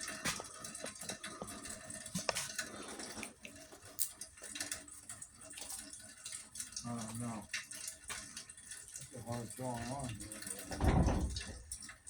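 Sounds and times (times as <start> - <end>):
drops dripping and ticking: 0.0 - 12.0
rain falling: 0.0 - 12.0.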